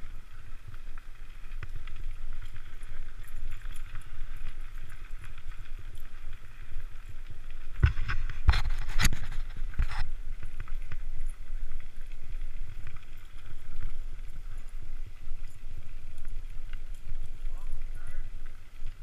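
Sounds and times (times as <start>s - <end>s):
bike tyres rumbling on gravel: 0.0s - 19.0s.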